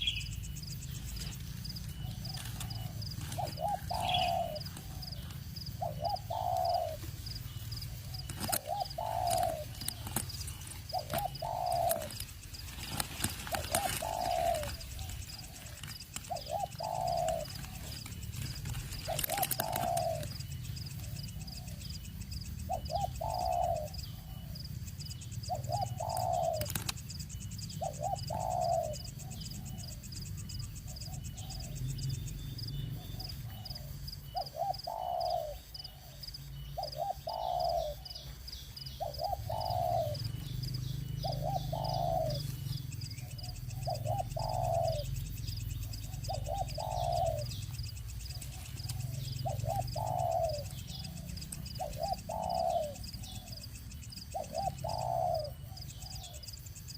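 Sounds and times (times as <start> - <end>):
bird low call: 0.0 - 56.9.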